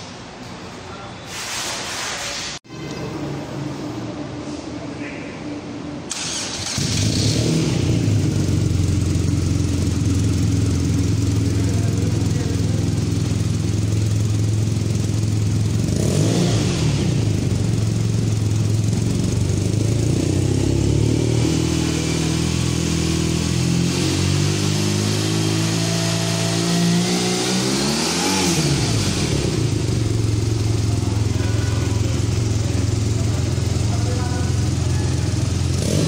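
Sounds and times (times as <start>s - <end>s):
motorcycle engine idling and revving: 6.1s - 36.0s.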